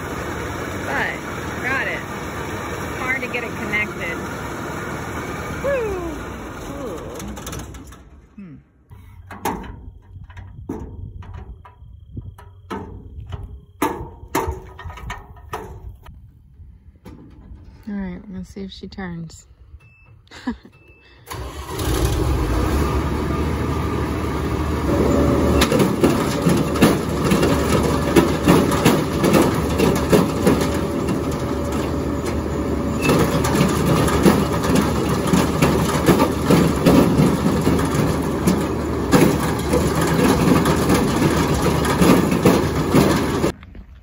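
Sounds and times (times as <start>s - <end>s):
combine clanking and knocking: 0.0s - 5.6s, 6.2s - 8.4s, 9.2s - 16.2s, 16.9s - 17.9s, 21.3s - 43.6s.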